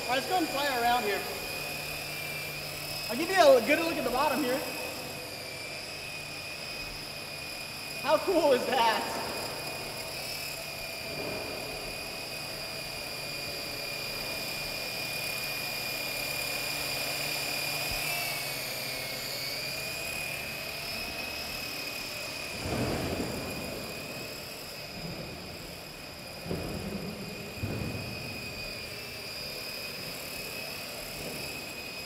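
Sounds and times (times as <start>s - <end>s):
toy helicopter rotor whine: 0.0s - 32.0s.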